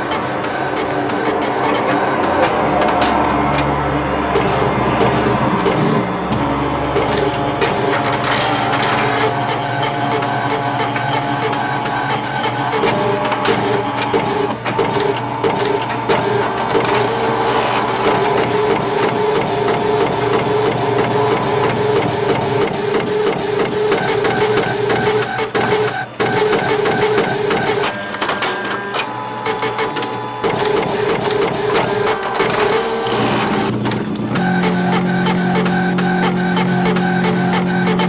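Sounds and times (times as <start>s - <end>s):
inkjet printer whirring: 0.0s - 38.0s.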